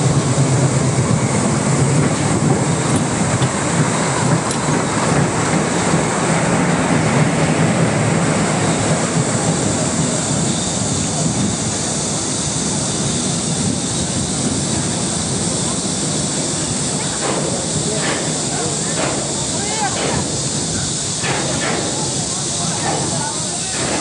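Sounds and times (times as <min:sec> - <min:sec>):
roller coaster rolling rumble: 0:00.0 - 0:24.0.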